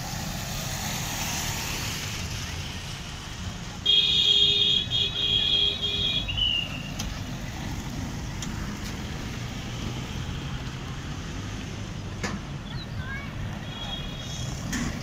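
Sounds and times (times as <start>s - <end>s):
cars passing on dirt road: 0.0s - 15.0s.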